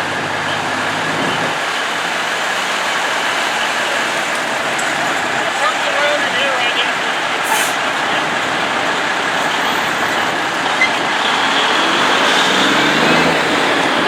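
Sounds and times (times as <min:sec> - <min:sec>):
diesel truck engines running: 0:00.0 - 0:14.0
truck engine revving: 0:00.0 - 0:14.0.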